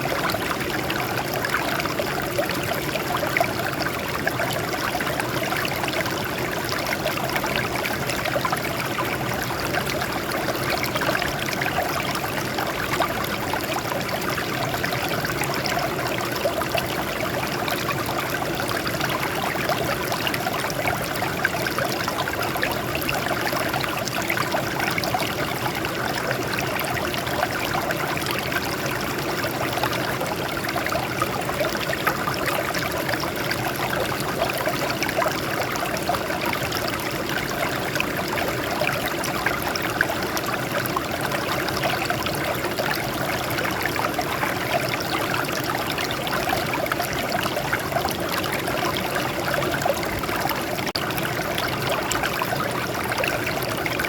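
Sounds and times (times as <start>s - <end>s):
water babbling over rocks: 0.0s - 54.0s.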